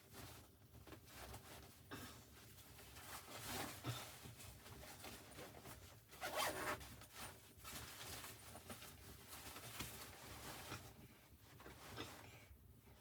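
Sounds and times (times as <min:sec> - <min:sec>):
soft scratchy rustling: 0:00.0 - 0:13.0.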